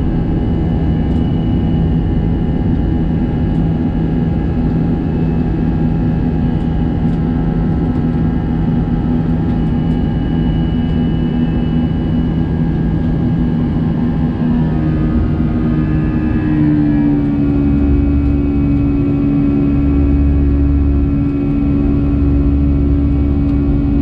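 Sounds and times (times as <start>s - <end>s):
jet engines rumbling in cabin: 0.0s - 24.0s.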